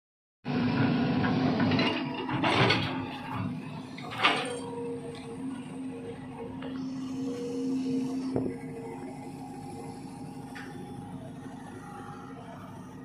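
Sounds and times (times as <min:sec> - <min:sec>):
diesel engine droning: 0:00.5 - 0:13.0.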